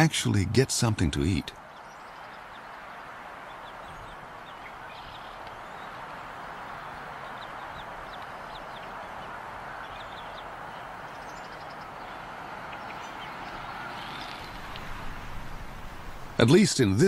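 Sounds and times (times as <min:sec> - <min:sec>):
outdoor ambience hiss: 0:00.0 - 0:17.0.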